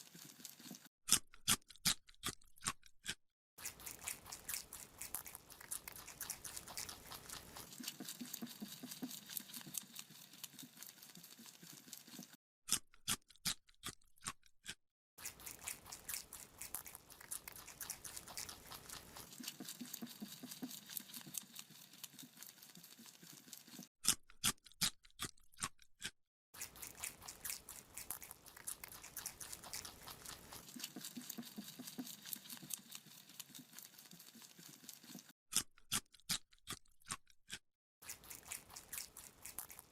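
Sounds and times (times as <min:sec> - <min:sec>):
rabbit crunching a carrot: 0:00.0 - 0:39.9.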